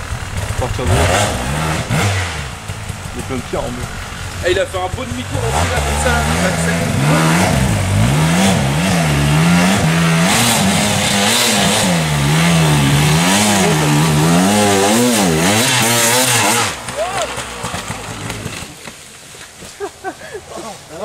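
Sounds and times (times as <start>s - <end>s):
motorcycle engine revving hard: 0.0s - 18.9s.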